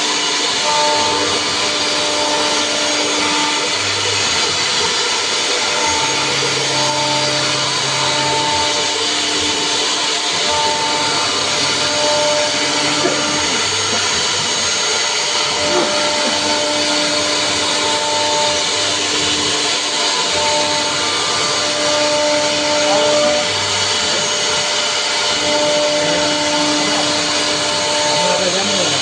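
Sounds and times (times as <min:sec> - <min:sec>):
machine whining tone: 0:00.0 - 0:29.0
router spindle and dust extraction: 0:00.0 - 0:29.0.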